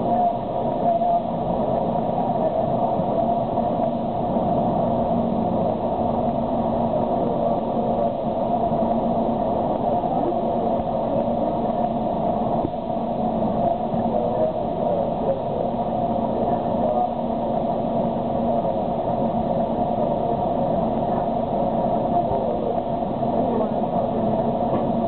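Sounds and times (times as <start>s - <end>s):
cable car cabin hum and rumble: 0.0s - 25.0s.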